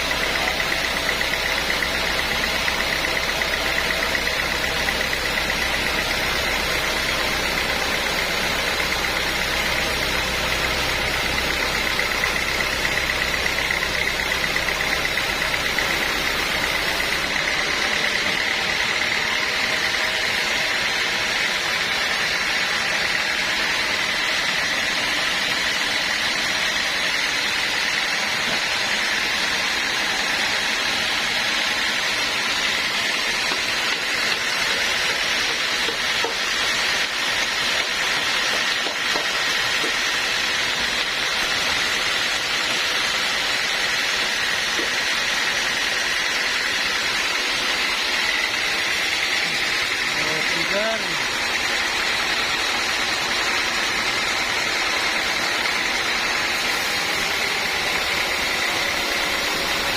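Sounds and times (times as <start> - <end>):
sawmill machinery high whine: 0.0 - 59.9.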